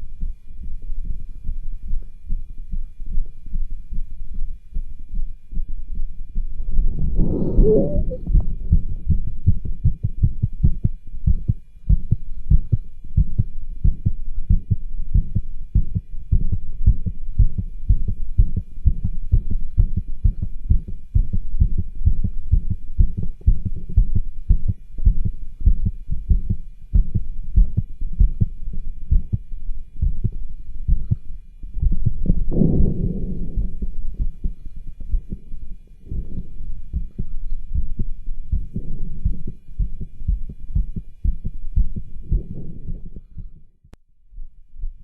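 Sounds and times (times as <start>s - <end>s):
heartbeat thumps: 0.0s - 45.0s.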